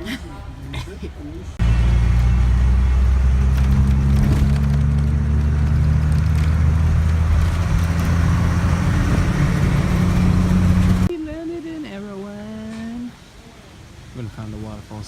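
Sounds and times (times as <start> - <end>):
bus engine droning: 0.0 - 13.3
road and wind noise: 0.0 - 15.0.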